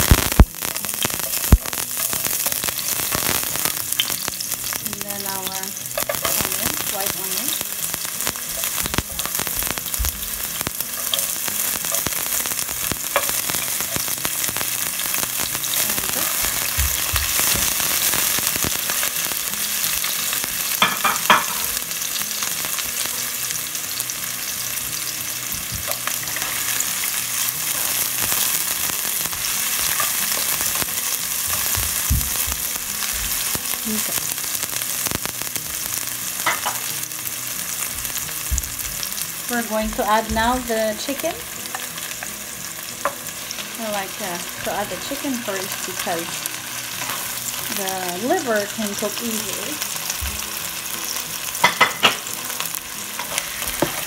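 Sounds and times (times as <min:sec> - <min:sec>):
garlic and onion sizzling in oil: 0:00.0 - 0:54.0.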